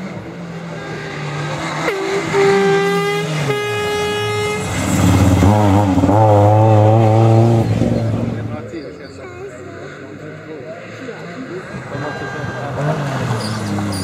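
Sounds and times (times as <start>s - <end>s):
rally car engine revving: 0.0s - 9.0s, 9.8s - 14.0s.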